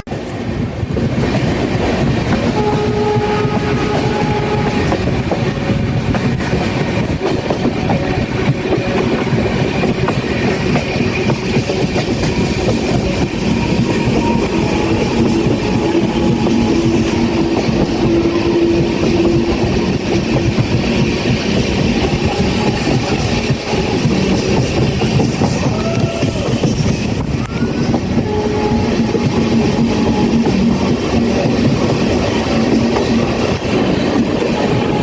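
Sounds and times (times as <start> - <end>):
train rumbling on rails: 0.0 - 35.0.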